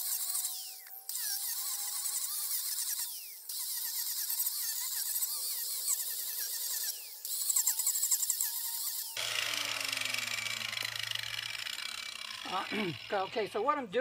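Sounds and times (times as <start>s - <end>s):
motor winding down: 0.0s - 13.7s
angle grinder cutting wood: 0.0s - 14.0s.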